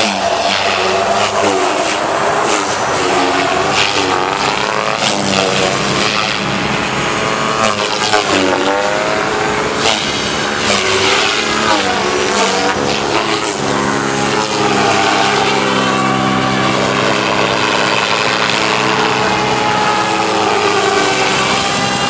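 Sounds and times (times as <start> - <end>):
rc helicopter motor whine: 0.0 - 22.0
rotor blades swishing: 0.0 - 22.0.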